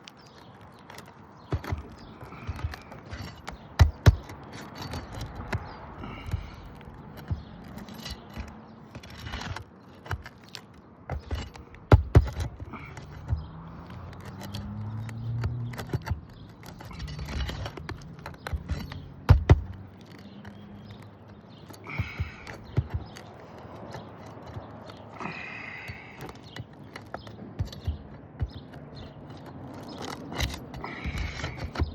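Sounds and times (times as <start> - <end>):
scraping and rustling: 0.0 - 31.9
hand tools knocking on roof shingles: 0.3 - 31.9.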